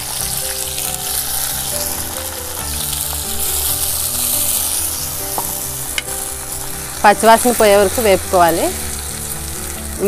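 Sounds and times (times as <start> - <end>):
hot oil sizzling in a pot: 0.0 - 10.0.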